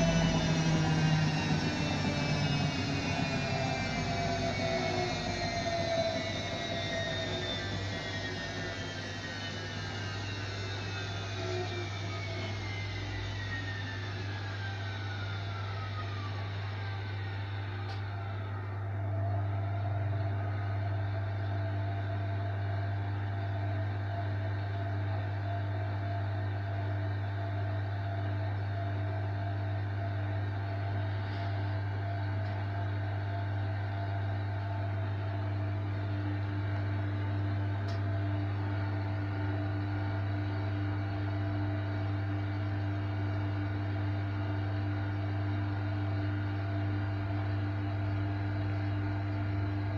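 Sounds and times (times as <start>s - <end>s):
washing machine spinning: 0.0s - 49.9s.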